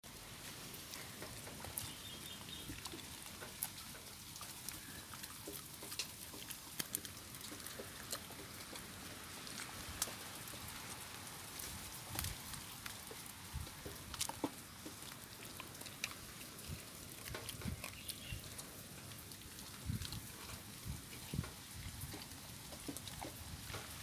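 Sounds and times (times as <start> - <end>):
dog chewing a stick: 0.0 - 24.0.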